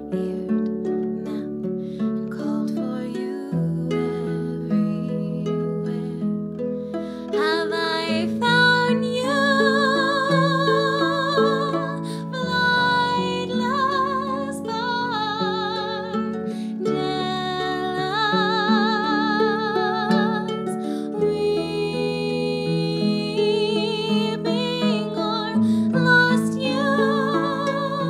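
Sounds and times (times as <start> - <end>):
plucked harp chords: 0.0 - 28.0
slow melody with vibrato: 0.0 - 28.0.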